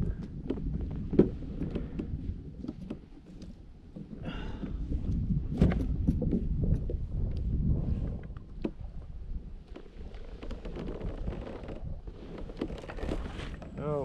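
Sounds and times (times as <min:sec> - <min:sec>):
gear knocking against kayak hull: 0:00.0 - 0:07.0, 0:08.5 - 0:13.8
wind rumble on microphone: 0:00.0 - 0:14.0.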